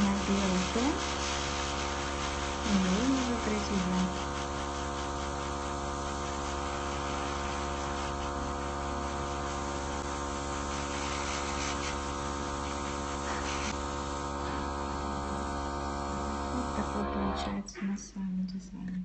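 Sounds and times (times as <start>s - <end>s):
airbrush hissing: 0.0s - 17.0s
compressor humming: 0.0s - 19.0s.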